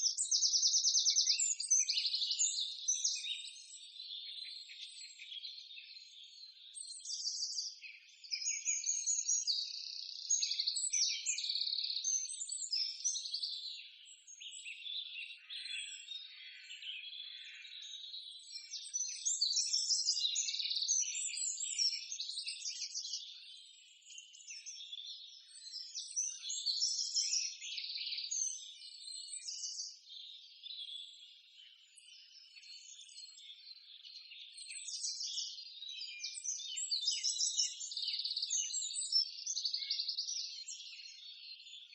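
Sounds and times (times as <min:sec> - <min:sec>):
birds chirping and calling: 0:00.0 - 0:41.9.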